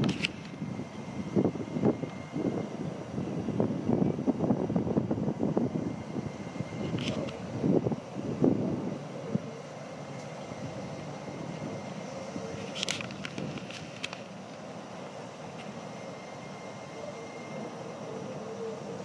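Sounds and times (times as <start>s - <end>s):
faint electric whine: 0.0s - 19.0s
train rumbling past: 0.0s - 19.0s.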